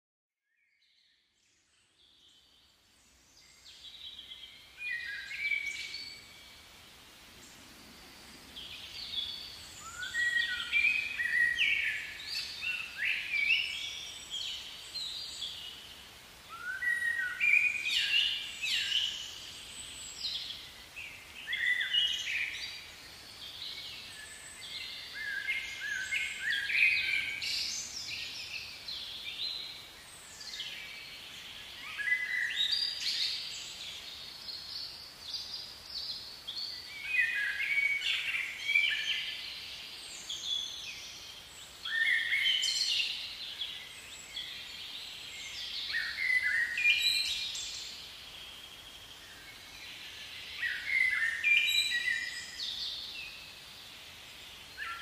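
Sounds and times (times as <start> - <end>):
birds chirping and warbling: 1.7 - 55.0.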